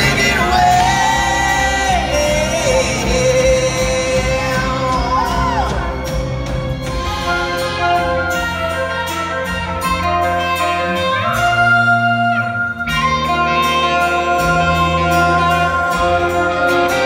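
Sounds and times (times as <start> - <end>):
electric guitar sliding lead note: 0.0 - 17.0
rock band and orchestra playing: 0.0 - 17.0.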